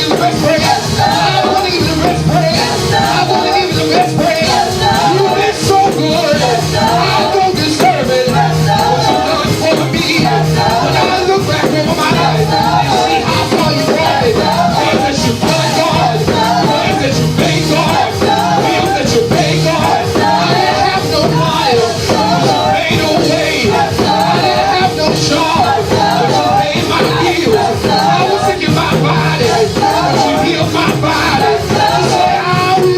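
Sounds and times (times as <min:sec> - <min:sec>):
church band playing gospel music: 0:00.0 - 0:32.9
voices singing: 0:00.0 - 0:32.9.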